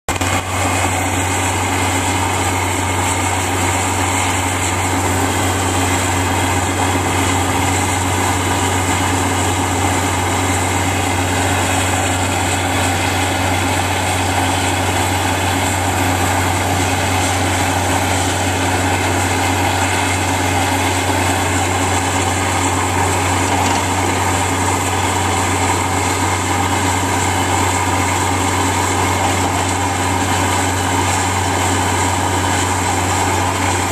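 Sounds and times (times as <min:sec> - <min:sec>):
drill rig engine droning: 0:00.1 - 0:33.9.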